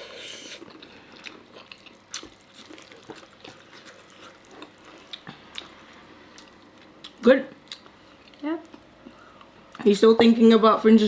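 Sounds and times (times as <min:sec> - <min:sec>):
wet chewing of people eating: 0:00.0 - 0:09.9.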